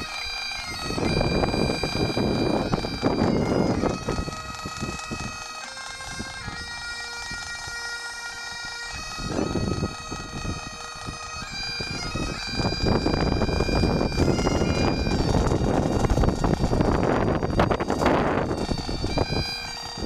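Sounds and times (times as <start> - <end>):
bagpipes playing slow melody: 0.0 - 20.0
wind rumble on microphone: 0.0 - 20.0.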